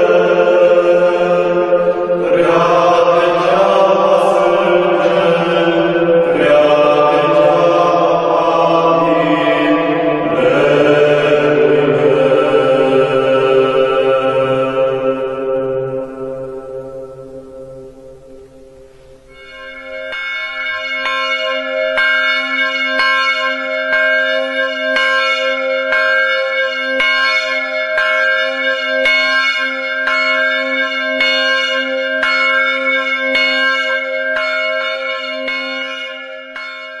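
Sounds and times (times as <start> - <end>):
church bell tolling: 0.0 - 37.0.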